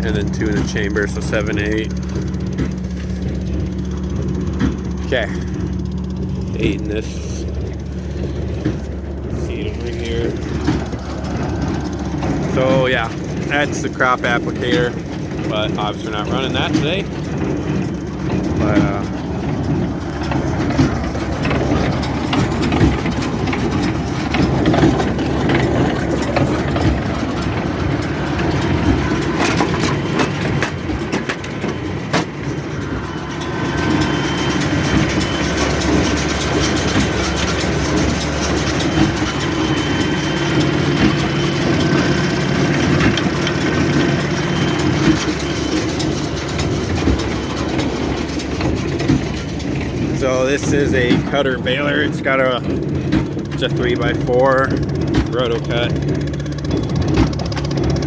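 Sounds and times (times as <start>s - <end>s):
tractor and baler droning: 0.0s - 58.0s.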